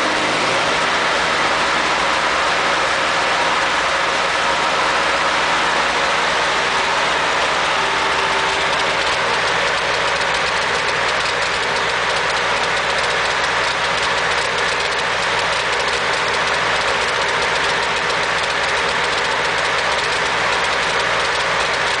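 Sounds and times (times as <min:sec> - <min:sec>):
tractor engine idling with misfire: 0:00.0 - 0:22.0.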